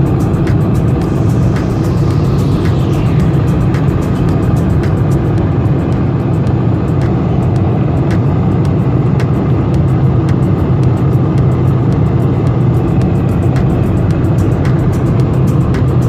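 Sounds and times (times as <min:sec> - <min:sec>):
jet engines rumbling in cabin: 0:00.0 - 0:16.0
rushing air: 0:00.0 - 0:16.0.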